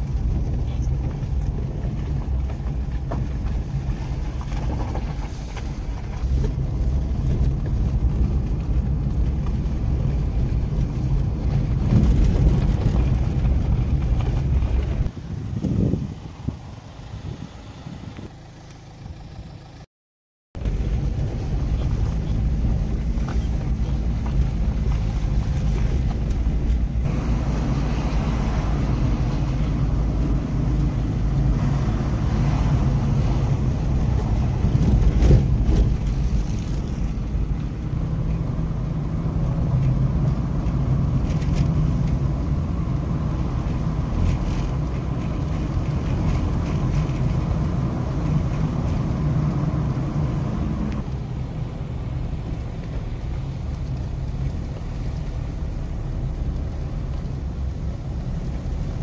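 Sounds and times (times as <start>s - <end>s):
wind noise: 0.0s - 18.4s, 20.6s - 59.0s
vehicle engine rumble: 0.0s - 19.9s, 20.5s - 59.0s.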